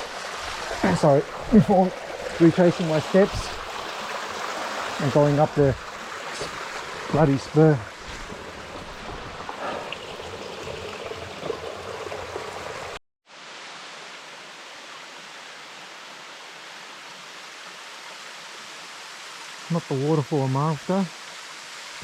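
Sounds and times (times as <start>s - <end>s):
creek water rushing over rocks: 0.0s - 22.0s
small waterfall rushing: 0.0s - 22.0s.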